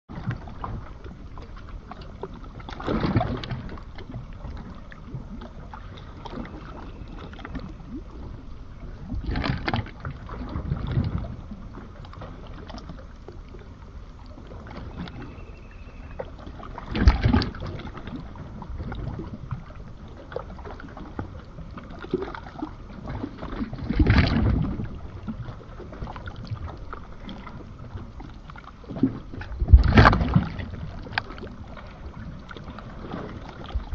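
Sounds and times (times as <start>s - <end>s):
sea waves washing: 0.1s - 33.9s.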